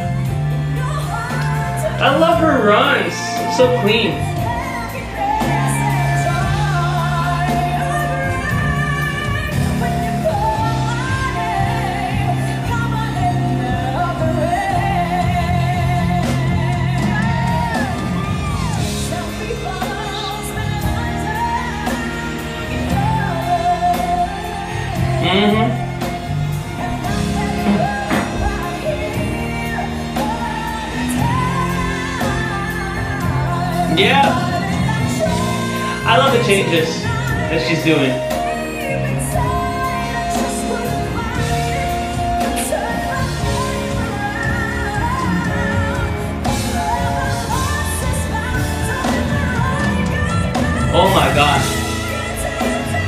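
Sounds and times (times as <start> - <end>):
backing band playing: 0.0 - 53.0
woman singing a ballad: 0.0 - 53.0.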